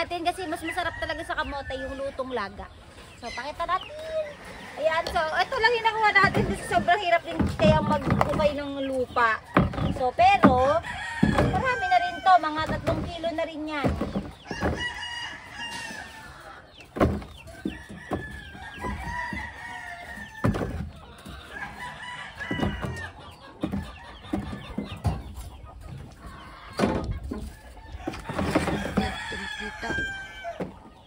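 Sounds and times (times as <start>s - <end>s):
chickens crowing and clucking: 0.0s - 31.0s.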